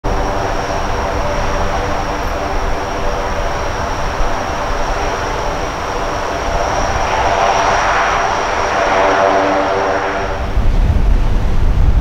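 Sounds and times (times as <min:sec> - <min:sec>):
thin high whine: 0:00.0 - 0:11.9
heavy low rumble: 0:00.0 - 0:12.0
propeller drone: 0:00.0 - 0:12.0.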